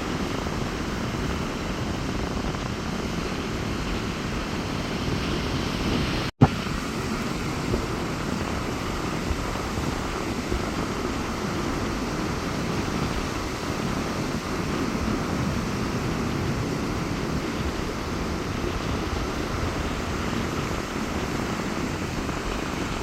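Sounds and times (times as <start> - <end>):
sea surf breaking on beach: 0.0 - 23.0
wind rumbling on microphone: 0.0 - 23.0.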